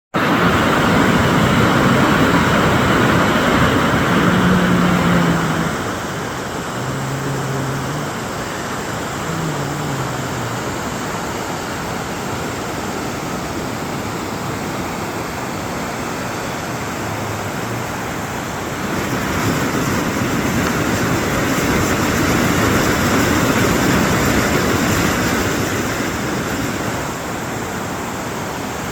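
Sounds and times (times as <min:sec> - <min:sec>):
fast river rushing: 0:00.2 - 0:28.9.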